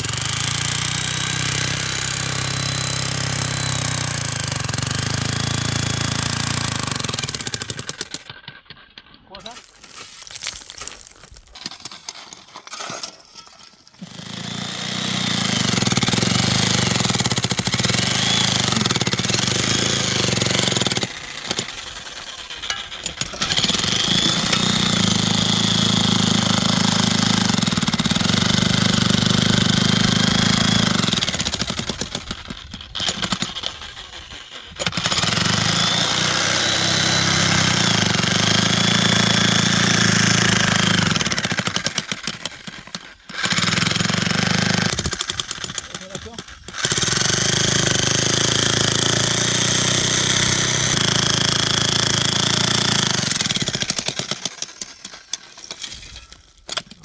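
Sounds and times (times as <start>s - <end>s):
small engine running: 0.0s - 8.7s, 14.0s - 56.9s.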